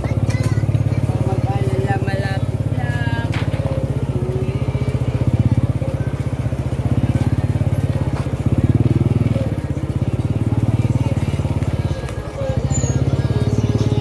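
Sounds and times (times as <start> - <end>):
small motorcycle engine puttering: 0.0 - 14.0.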